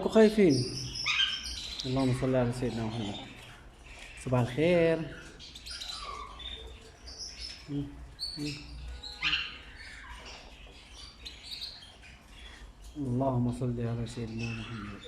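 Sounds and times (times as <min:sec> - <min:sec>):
parrots chirping and whistling: 0:00.4 - 0:04.3, 0:05.1 - 0:13.0, 0:14.2 - 0:15.0.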